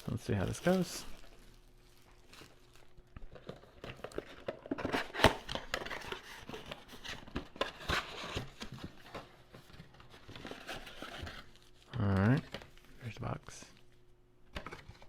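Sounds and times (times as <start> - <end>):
plastic wrapping crinkling and tearing: 0.0 - 13.1.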